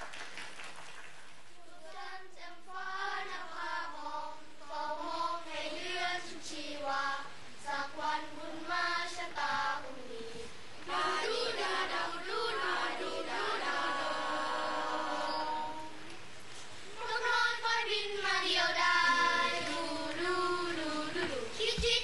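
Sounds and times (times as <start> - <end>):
boys' choir singing: 1.9 - 10.0, 10.8 - 16.1, 17.0 - 22.0.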